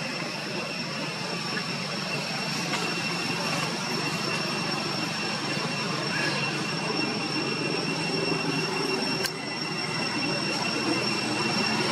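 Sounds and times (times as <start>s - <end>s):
high-pitched insect whine: 0.1s - 11.9s.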